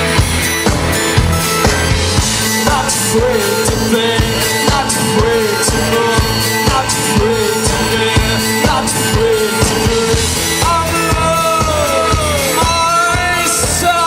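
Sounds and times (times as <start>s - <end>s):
rock music with drum beat: 0.0s - 14.0s
sung melodic line: 0.0s - 14.0s.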